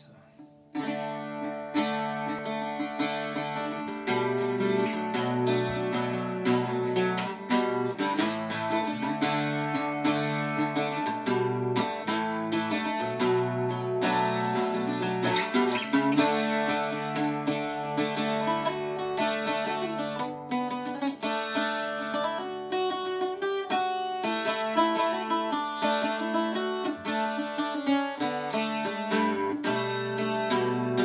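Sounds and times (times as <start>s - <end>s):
bouzouki playing: 0.0s - 31.0s.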